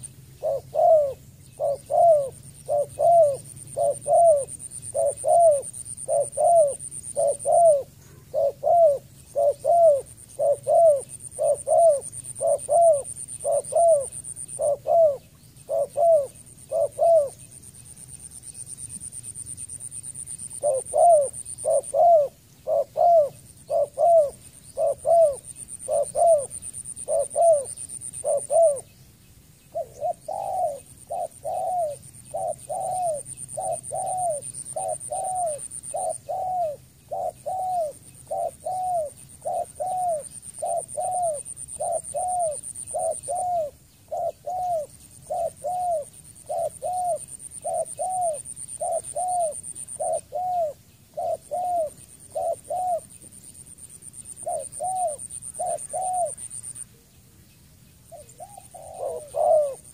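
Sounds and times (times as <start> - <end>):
dove cooing: 0.0 - 17.5, 20.1 - 28.9, 29.7 - 57.1, 58.1 - 59.9.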